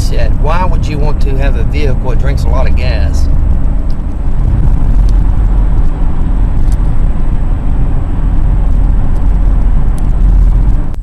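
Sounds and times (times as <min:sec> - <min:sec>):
car road noise at highway speed: 0:00.0 - 0:11.0.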